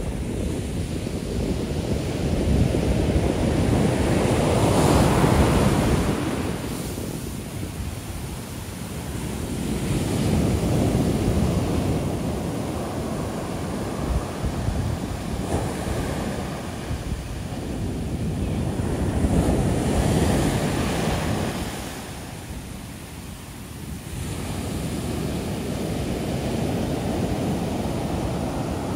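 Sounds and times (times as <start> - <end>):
waves breaking on beach: 0.0 - 28.9.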